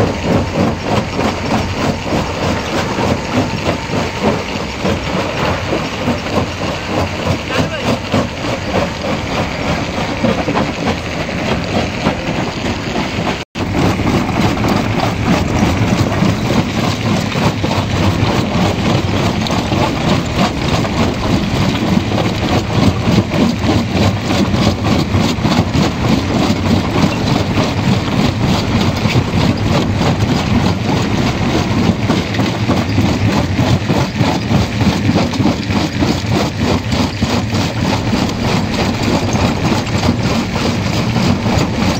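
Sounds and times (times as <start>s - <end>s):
jaw crusher pounding: 0.0s - 41.9s.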